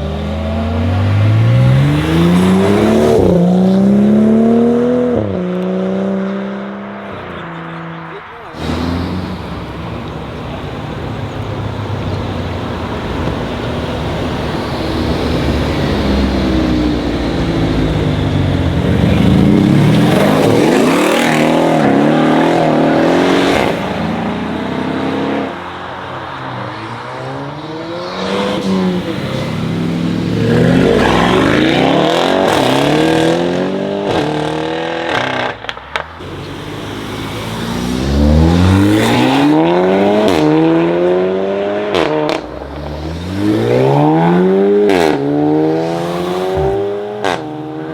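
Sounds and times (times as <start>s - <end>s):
car engines accelerating hard: 0.0s - 47.9s.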